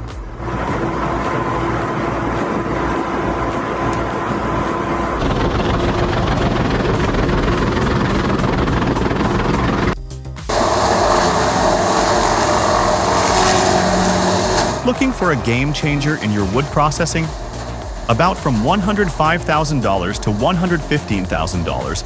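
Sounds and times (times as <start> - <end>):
steady machine engine: 0.0 - 22.0
wood-processing machinery running: 0.0 - 22.0.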